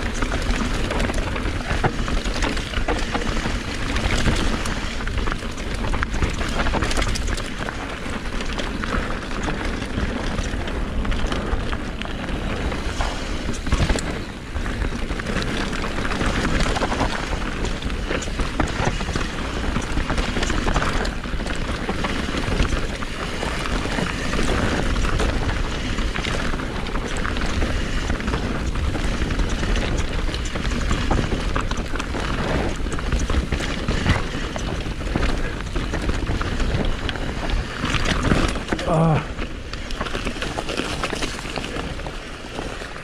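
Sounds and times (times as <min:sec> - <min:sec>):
bike clicks and rattles: 0:00.0 - 0:43.0
tyres over dirt and rocks: 0:00.0 - 0:43.0
wind rumble on microphone: 0:00.0 - 0:43.0.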